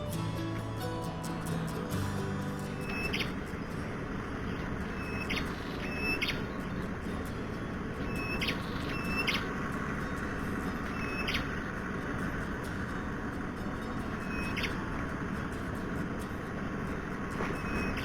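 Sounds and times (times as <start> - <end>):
steady rushing background: 0.0 - 18.0
bird calling: 2.6 - 18.0.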